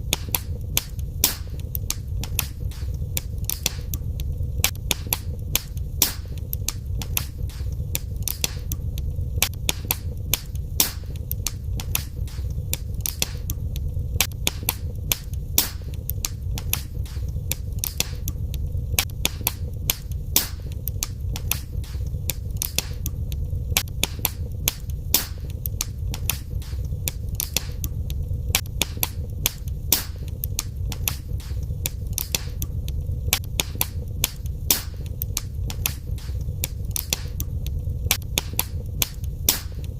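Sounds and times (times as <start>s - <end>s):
low rumble of flames: 0.0s - 39.9s
wood fire pops and snaps: 0.0s - 39.9s.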